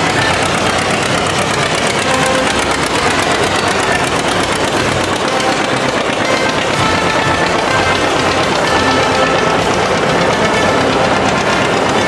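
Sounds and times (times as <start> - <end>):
tractors popping exhaust: 0.0 - 12.0.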